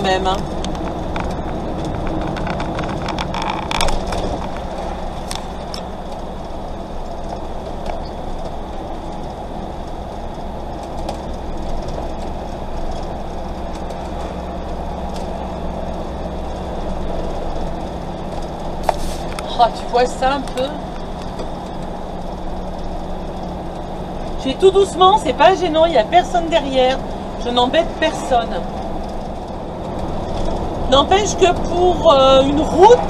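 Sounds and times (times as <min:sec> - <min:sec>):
van engine and tyre drone: 0:00.0 - 0:33.0.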